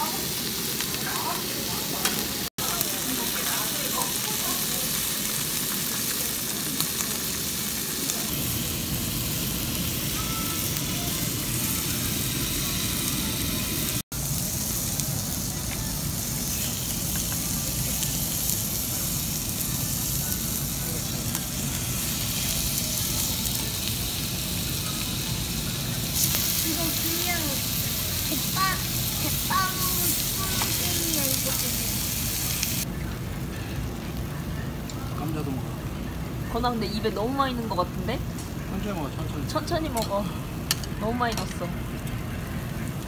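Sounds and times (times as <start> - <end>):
beef sizzling on a grill: 0.0 - 43.0.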